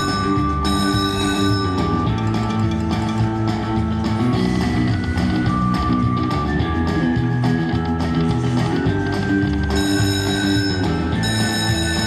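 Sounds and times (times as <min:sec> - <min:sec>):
slot machine game music: 0:00.0 - 0:12.0.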